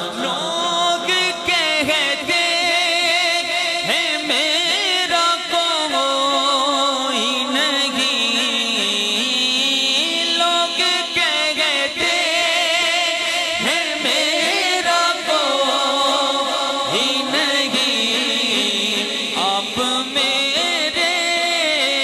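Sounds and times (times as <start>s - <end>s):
man singing backing vocals: 0.0s - 22.0s
man singing into a microphone: 0.0s - 22.0s.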